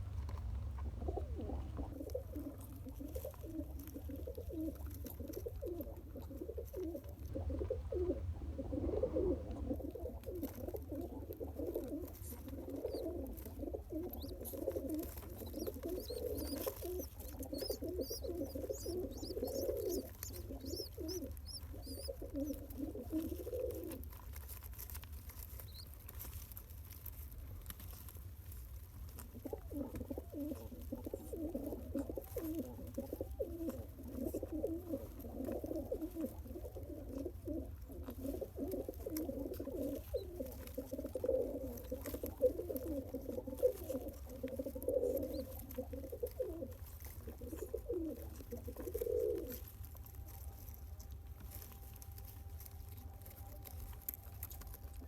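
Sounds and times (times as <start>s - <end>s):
pigeon throaty cooing: 0.8s - 24.6s, 29.2s - 50.4s.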